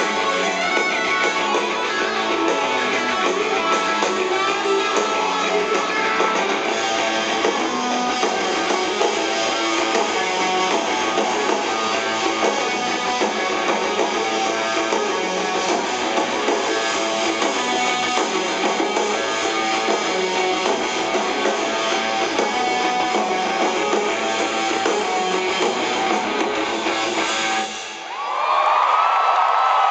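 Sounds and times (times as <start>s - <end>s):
strummed electric guitars: 0.0s - 28.1s
live rock band: 0.0s - 28.2s.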